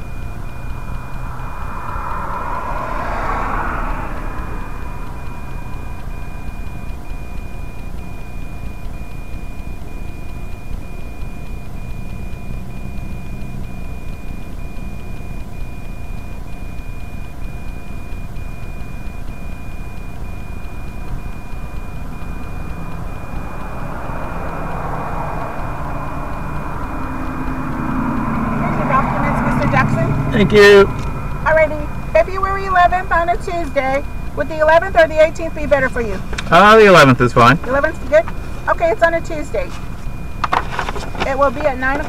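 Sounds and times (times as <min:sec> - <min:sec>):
highway traffic passing: 0:00.0 - 0:08.6, 0:09.8 - 0:16.0, 0:16.6 - 0:42.0
high-pitched electronic tone: 0:00.0 - 0:42.0
vehicle engine rumbling: 0:00.0 - 0:42.0.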